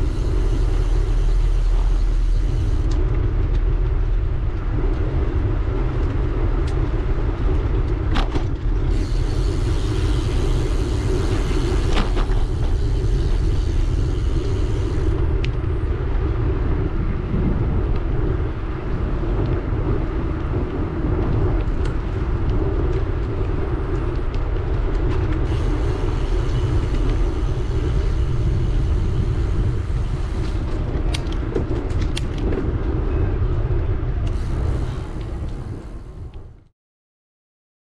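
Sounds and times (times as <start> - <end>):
tyres humming on pavement: 0.0 - 36.7
wind noise on microphone: 0.0 - 36.7.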